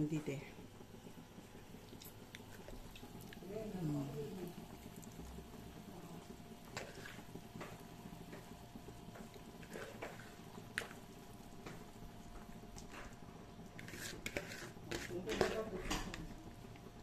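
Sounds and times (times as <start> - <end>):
soup bubbling at the boil: 0.5 - 15.2, 15.9 - 17.0.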